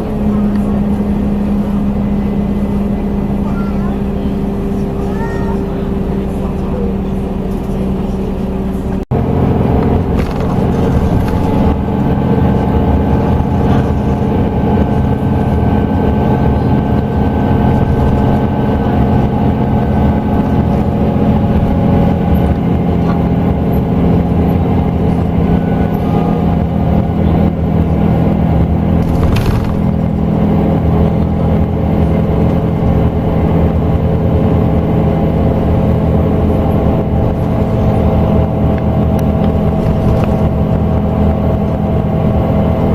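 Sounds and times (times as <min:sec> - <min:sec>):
coach diesel engine running: 0:00.0 - 0:42.9.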